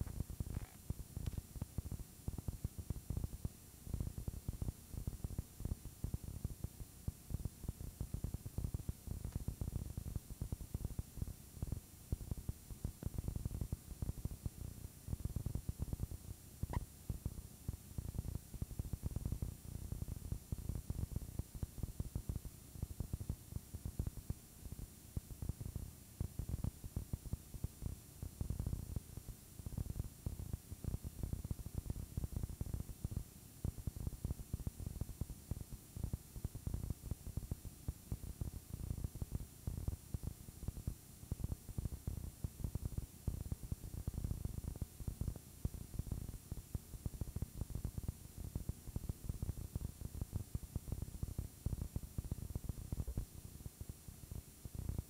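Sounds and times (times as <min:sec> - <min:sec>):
static crackle: 0:00.0 - 0:55.0.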